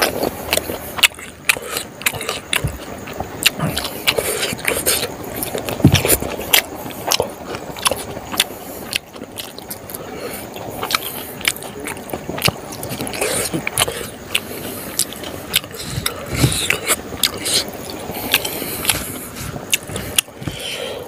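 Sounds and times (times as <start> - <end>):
person chewing: 0.0 - 21.0.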